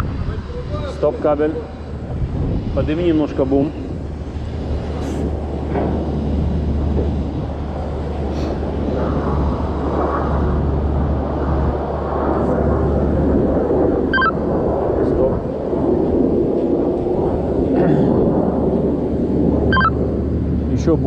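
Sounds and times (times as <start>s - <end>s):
crane engine rumble: 0.0s - 21.0s
wind buffeting microphone: 0.0s - 21.0s.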